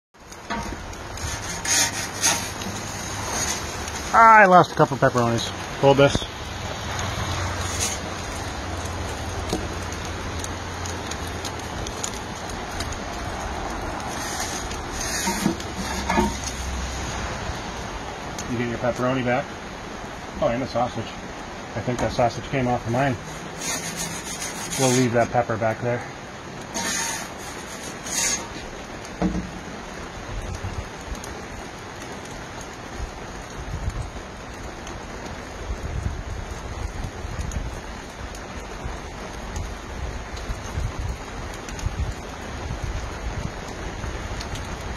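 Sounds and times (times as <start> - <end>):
oven flame roaring: 0.2 - 44.9
rain falling: 0.2 - 44.9.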